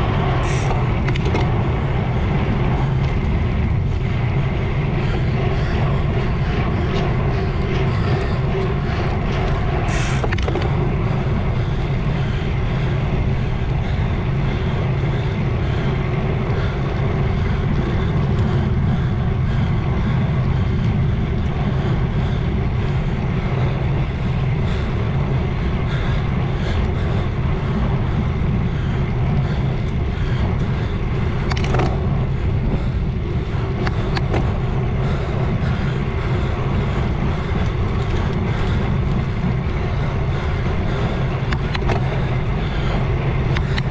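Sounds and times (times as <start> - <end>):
wind rumble on microphone: 0.0 - 43.9.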